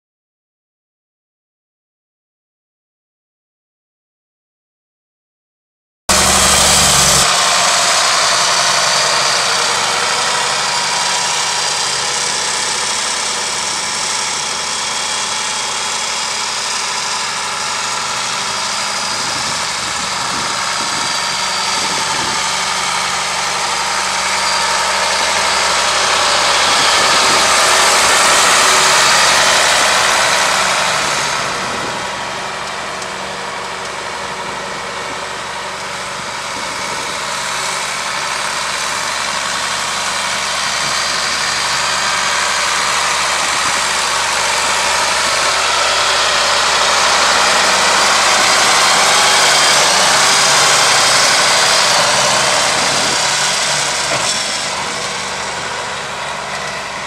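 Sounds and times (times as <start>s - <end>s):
tractor diesel engine running: 6.1s - 57.0s.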